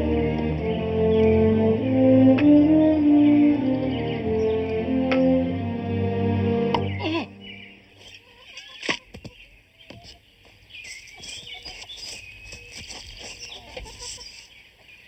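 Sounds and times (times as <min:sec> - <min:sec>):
small birds chirping: 0:00.0 - 0:05.4, 0:06.8 - 0:15.0
outdoor ambience: 0:00.0 - 0:15.0.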